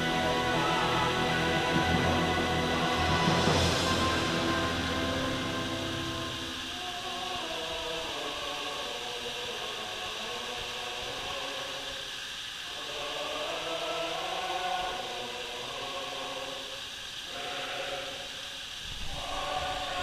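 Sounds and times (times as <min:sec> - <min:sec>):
voices chanting long notes: 0:00.0 - 0:12.0, 0:12.6 - 0:20.0
steady hiss: 0:00.0 - 0:20.0.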